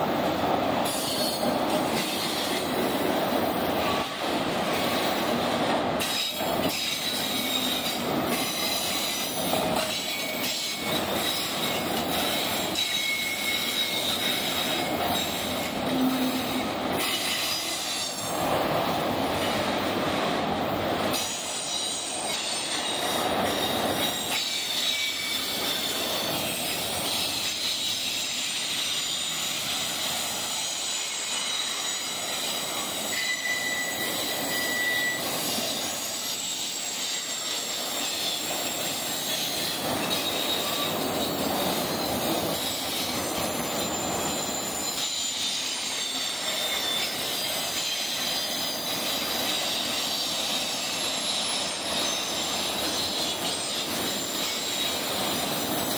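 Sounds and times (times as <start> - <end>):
freight train rolling past: 0.0 - 55.9
wheel squeals: 6.0 - 18.2, 21.6 - 55.9.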